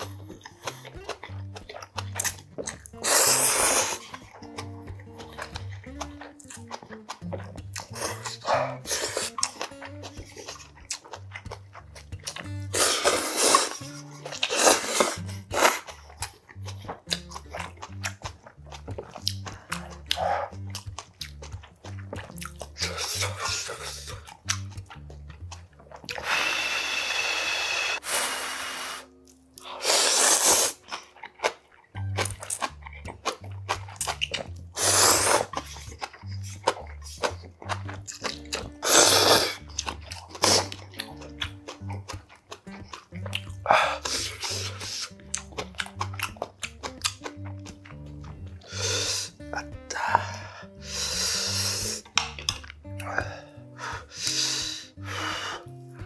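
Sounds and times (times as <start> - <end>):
person slurping noodles: 0.0 - 10.8, 11.9 - 17.7, 19.2 - 24.7, 25.9 - 31.2, 32.5 - 46.2, 48.0 - 56.0
person chewing: 0.0 - 56.0
soft background music: 0.0 - 56.0.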